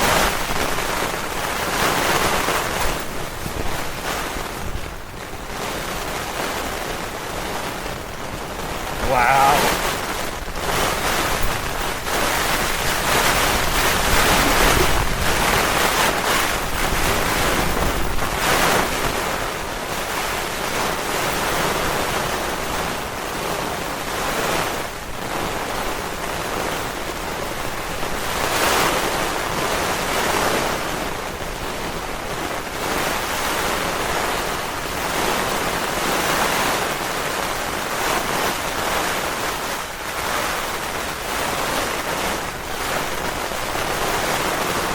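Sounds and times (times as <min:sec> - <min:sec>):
gusting wind: 0:00.0 - 0:44.9
heavy rain on a tent: 0:00.0 - 0:44.9.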